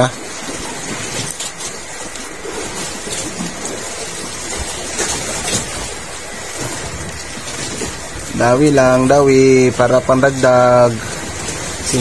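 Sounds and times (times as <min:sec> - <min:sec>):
rain falling on sea: 0:00.0 - 0:12.0.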